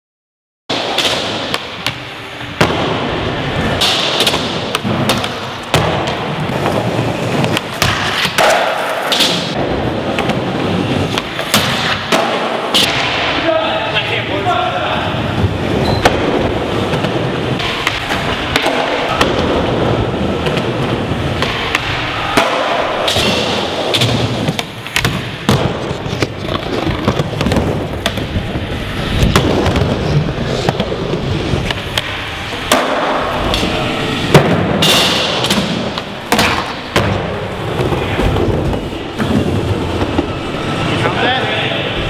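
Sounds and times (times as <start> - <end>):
skateboard wheels rolling on ramps: 0.7 - 42.0.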